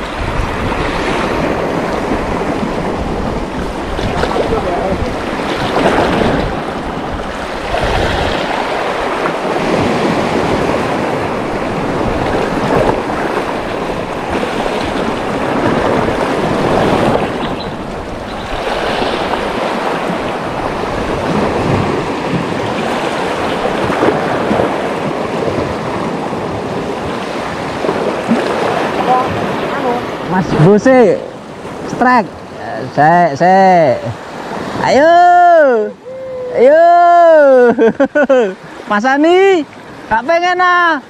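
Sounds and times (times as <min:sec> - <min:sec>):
wind on microphone: 0:00.0 - 0:32.9
sea surf washing in: 0:00.0 - 0:41.0.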